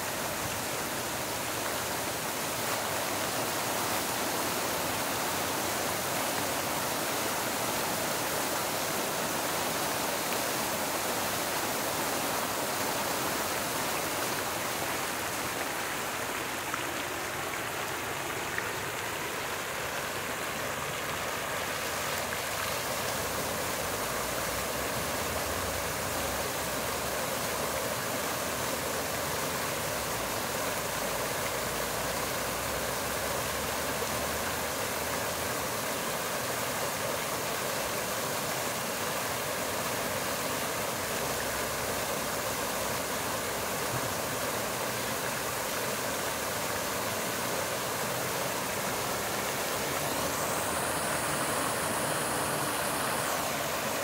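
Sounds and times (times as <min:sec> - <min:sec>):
fountain water splashing: 0:00.0 - 0:54.0.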